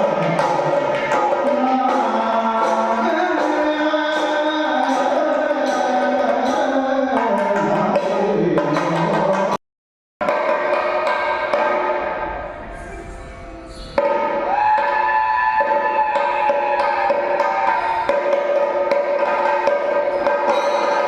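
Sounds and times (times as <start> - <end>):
hand drums playing: 0.0 - 9.6, 10.2 - 12.4, 13.5 - 21.0.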